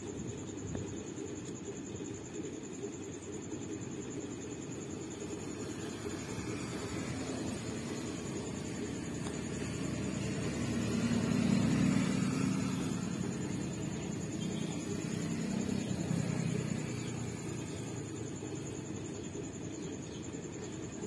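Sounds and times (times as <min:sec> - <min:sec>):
high whine: 0:00.0 - 0:21.0.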